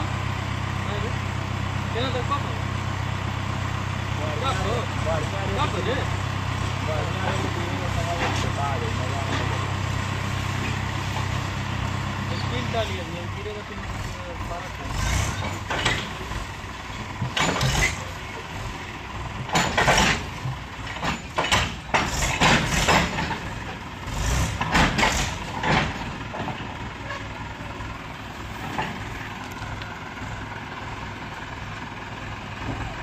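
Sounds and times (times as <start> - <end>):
diesel machinery rumbling: 0.0 - 33.0.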